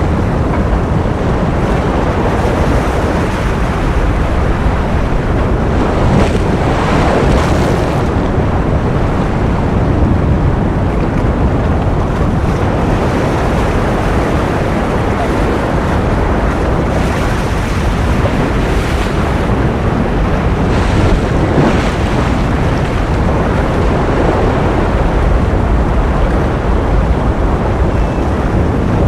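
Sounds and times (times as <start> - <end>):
ocean surf washing: 0.0 - 29.0.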